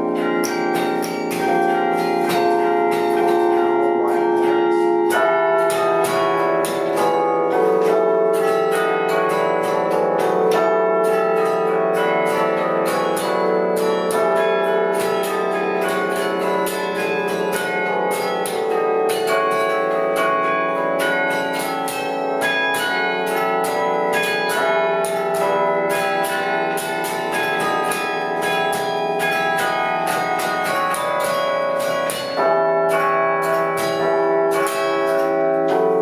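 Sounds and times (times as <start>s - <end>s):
bell-like background music: 0.0s - 36.0s.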